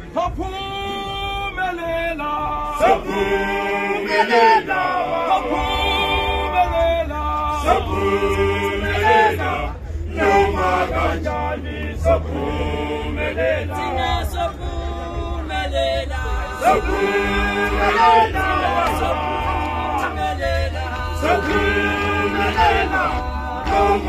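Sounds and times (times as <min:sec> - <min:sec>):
male choir singing a cappella: 0:00.0 - 0:24.0.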